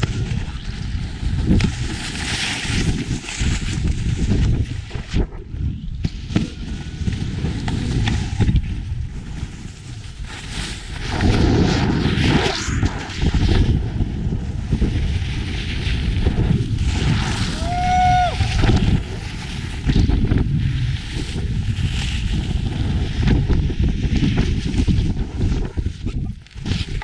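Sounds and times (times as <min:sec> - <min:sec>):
snowboard scraping on snow: 0:00.0 - 0:05.1, 0:05.9 - 0:27.0
wind on microphone: 0:00.0 - 0:27.0.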